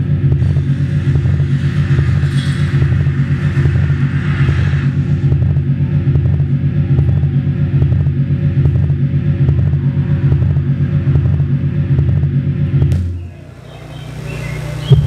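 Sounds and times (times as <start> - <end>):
throbbing low bass drone: 0.0 - 15.0.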